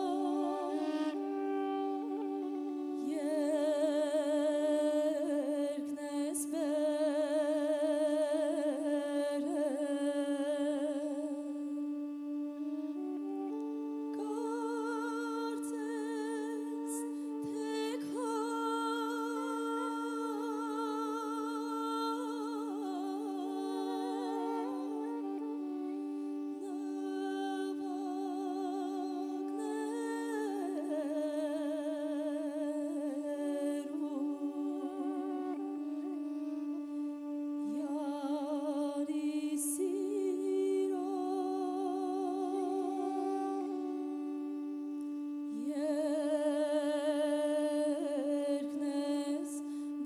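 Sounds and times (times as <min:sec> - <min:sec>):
held wind instrument drone: 0:00.0 - 0:50.0
woodwind melody: 0:00.0 - 0:50.0.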